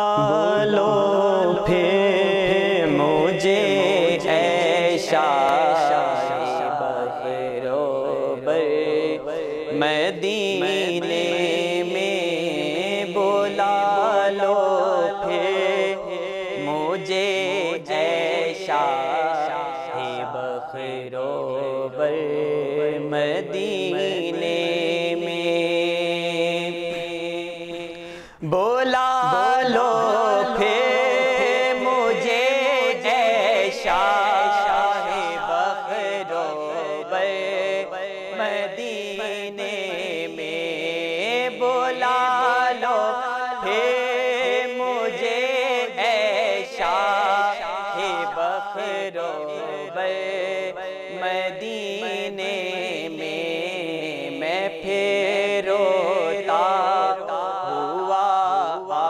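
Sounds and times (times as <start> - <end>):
man singing devotional song: 0.0 - 59.0.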